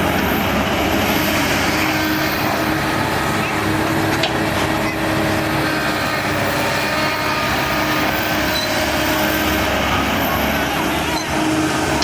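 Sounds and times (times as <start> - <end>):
diesel earthmoving machine engine: 0.0 - 12.0.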